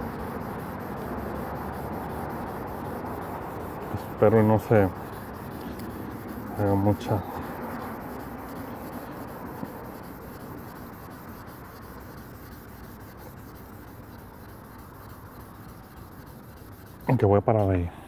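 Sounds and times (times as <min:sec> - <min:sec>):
wet sandpaper scrubbing: 0:00.0 - 0:17.8.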